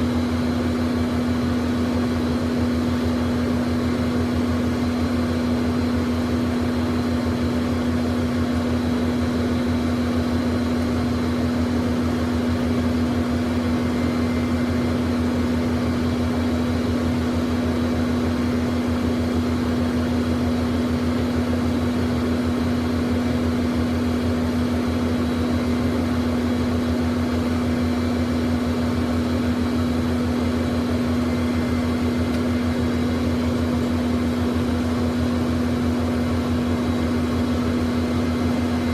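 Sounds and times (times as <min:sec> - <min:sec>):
jet engines idling: 0:00.0 - 0:38.9.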